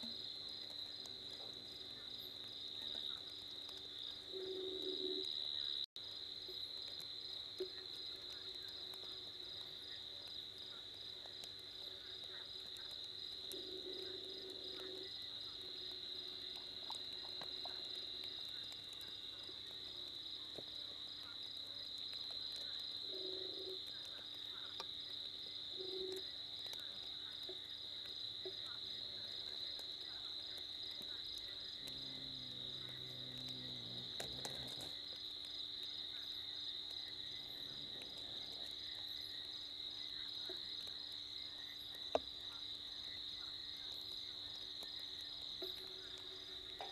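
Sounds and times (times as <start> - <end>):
crickets chirring: 0.0 - 46.9.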